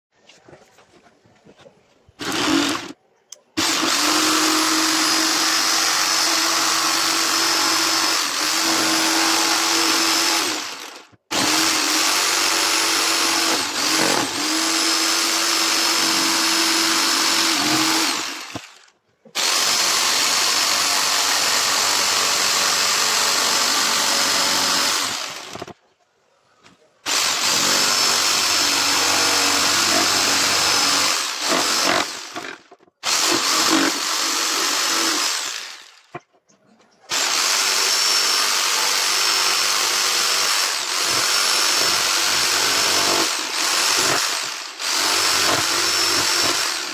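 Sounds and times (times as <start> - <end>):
power tool cutting wood: 2.2 - 3.0, 3.6 - 25.8, 27.1 - 36.2, 37.1 - 46.9.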